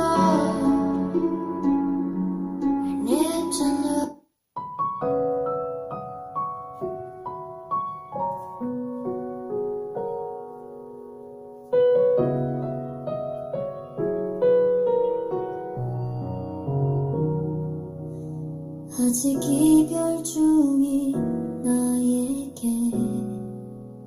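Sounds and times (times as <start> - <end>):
solo piano ballad: 0.0 - 24.0.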